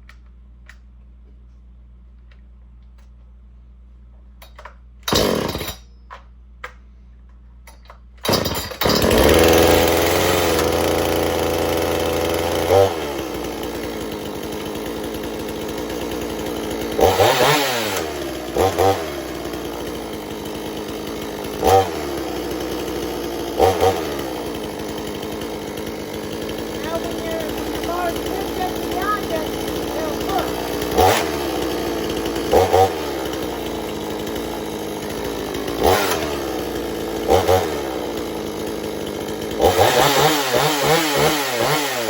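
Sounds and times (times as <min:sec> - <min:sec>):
chainsaw pull-start: 0:04.4 - 0:06.8, 0:07.6 - 0:42.0
chainsaw idling: 0:05.0 - 0:05.8, 0:08.2 - 0:42.0
chainsaw throttle blips: 0:05.0 - 0:05.8, 0:08.2 - 0:42.0.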